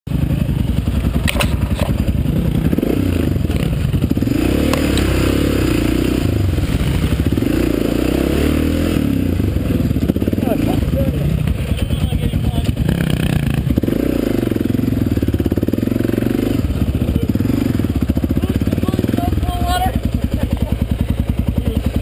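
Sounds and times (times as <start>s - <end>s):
dirt bike engine running: 0.1s - 22.0s.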